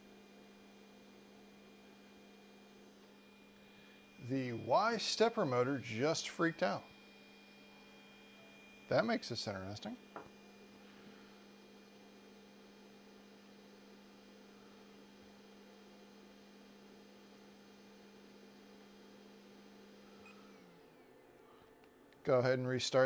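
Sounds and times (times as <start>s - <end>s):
faint printer hum: 0.0s - 23.0s.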